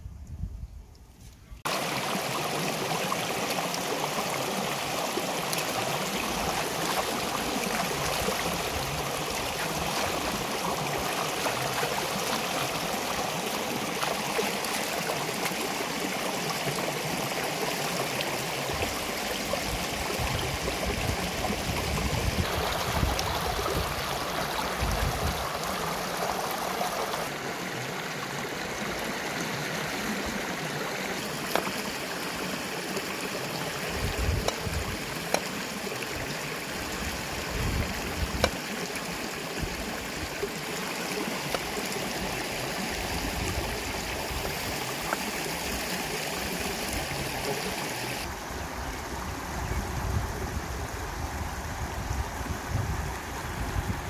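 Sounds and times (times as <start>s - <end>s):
river rushing over rocks: 1.7s - 48.8s.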